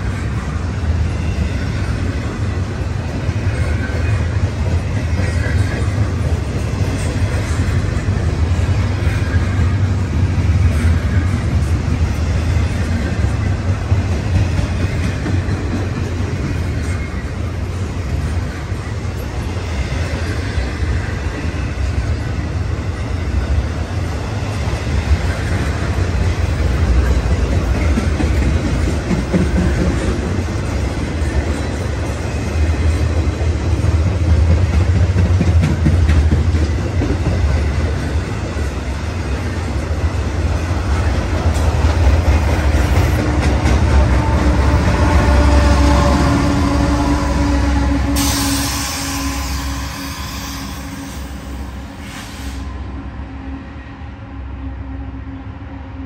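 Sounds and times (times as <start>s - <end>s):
freight train wheels clattering: 0.0s - 52.6s
diesel locomotive engine hum: 0.0s - 56.0s.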